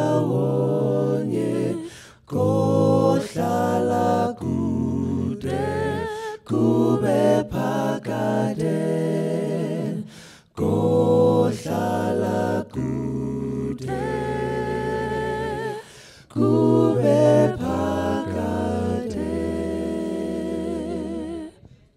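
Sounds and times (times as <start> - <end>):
male group singing in harmony: 0.0 - 21.6.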